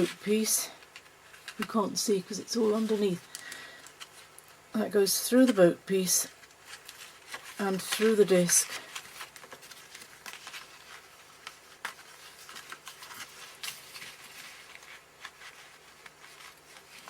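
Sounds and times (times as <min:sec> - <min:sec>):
small clicks and paper rustles: 0:00.0 - 0:04.6, 0:05.2 - 0:17.0.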